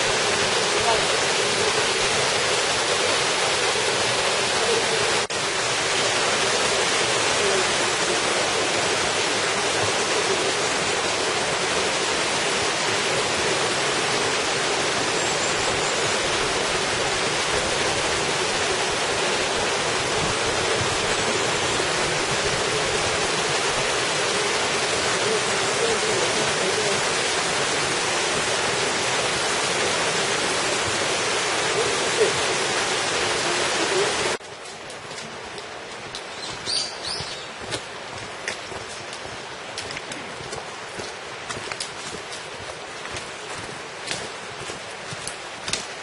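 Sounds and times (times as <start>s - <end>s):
stream rushing over rocks: 0.0s - 46.0s.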